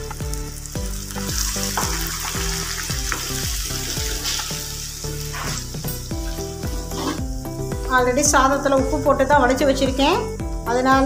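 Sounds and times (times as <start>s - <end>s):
paste sizzling in hot oil: 0.0s - 9.3s.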